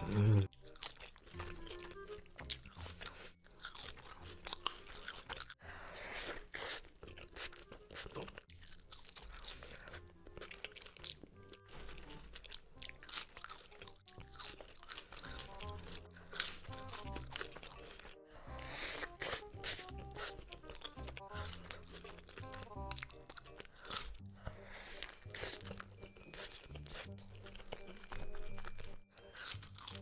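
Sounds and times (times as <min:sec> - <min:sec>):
background music: 0:00.0 - 0:30.0
crunchy bites and chewing: 0:00.0 - 0:30.0.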